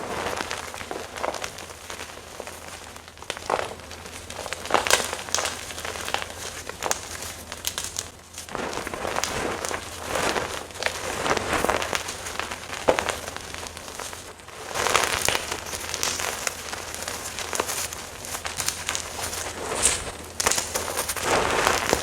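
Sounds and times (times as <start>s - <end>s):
chalk being crushed and crumbled: 0.0s - 22.0s.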